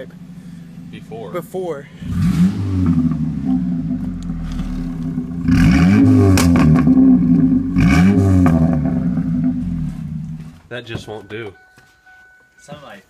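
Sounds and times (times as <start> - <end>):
car engine revving: 0.0 - 10.7.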